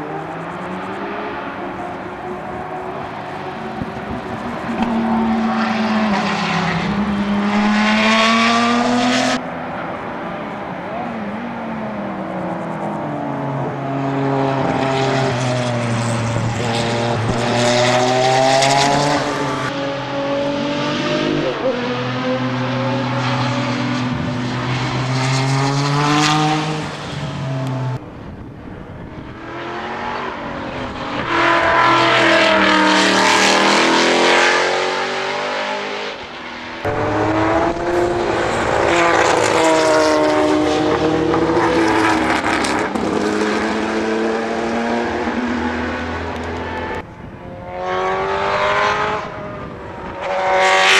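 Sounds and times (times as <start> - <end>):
race car engines passing: 0.0 - 50.9.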